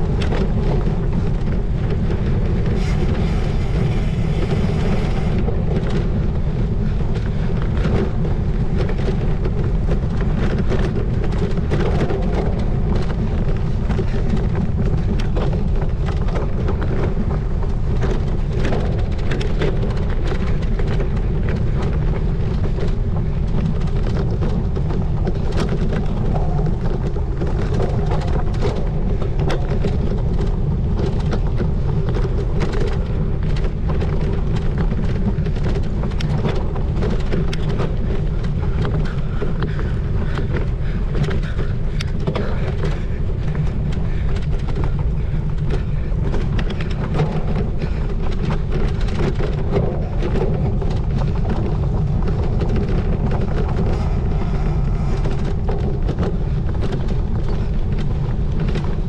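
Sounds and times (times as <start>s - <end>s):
bike rattling and knocking: 0.0s - 59.0s
wind buffeting microphone: 0.0s - 59.0s.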